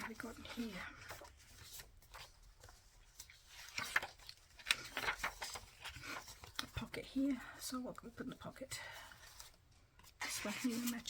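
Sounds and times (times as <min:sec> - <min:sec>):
paper rustling: 0:00.0 - 0:07.5, 0:08.2 - 0:11.0.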